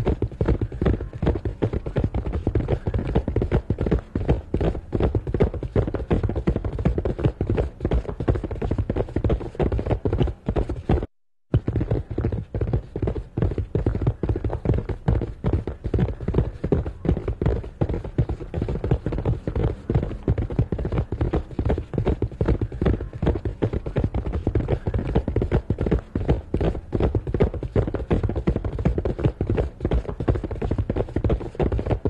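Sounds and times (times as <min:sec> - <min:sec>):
horse hoofbeats galloping: 0:00.0 - 0:32.0.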